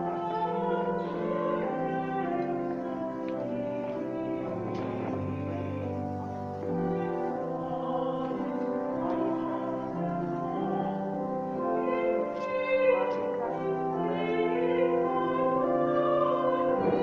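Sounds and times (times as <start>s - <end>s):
pipe organ playing chords: 0.0s - 17.0s.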